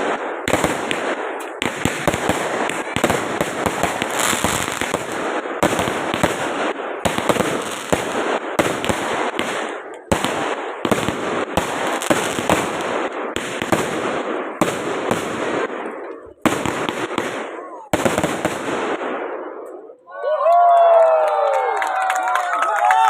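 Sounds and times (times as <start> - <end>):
fireworks crackle: 0.0 - 18.8
fireworks bangs: 0.0 - 19.9.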